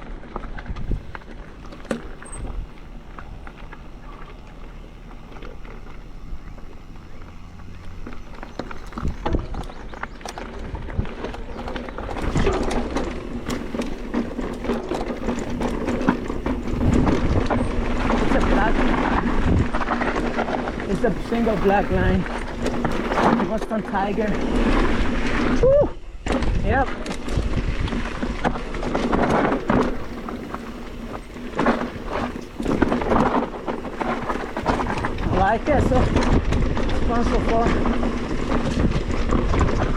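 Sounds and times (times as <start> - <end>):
steady buzz: 0.0 - 25.5, 28.8 - 39.3
bike rattling and knocking: 0.0 - 39.9
bike tyres rolling on dirt: 0.0 - 39.9.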